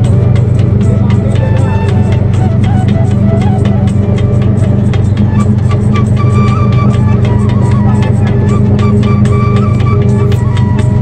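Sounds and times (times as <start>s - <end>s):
background music with beat: 0.0s - 11.0s
deep sustained bass: 0.0s - 11.0s.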